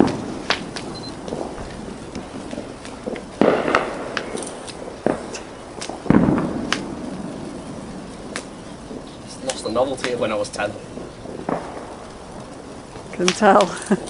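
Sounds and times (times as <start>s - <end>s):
fireworks cracking and banging: 0.0s - 14.0s.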